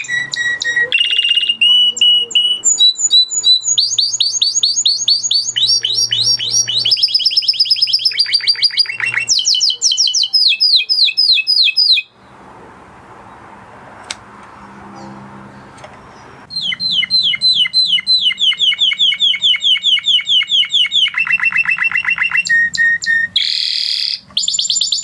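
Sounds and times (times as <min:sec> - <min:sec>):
canary singing trills: 0:00.0 - 0:12.4, 0:14.6 - 0:25.0.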